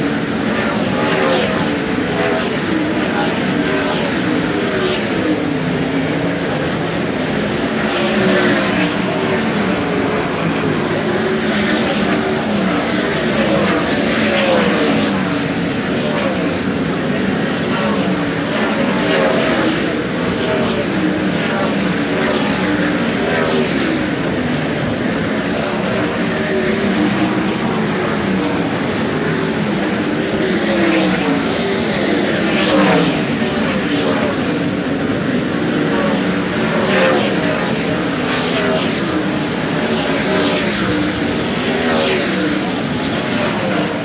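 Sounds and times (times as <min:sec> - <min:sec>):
race car engines passing: 0:00.0 - 0:44.0.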